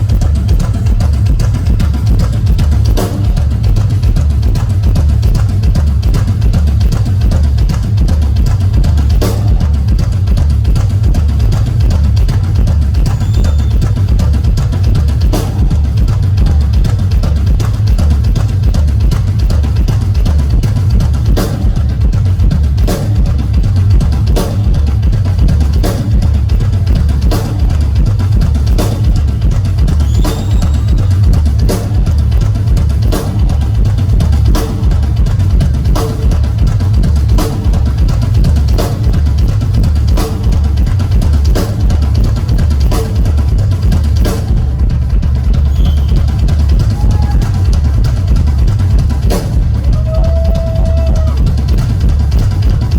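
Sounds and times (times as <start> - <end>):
rock drum solo: 0.0 - 52.9.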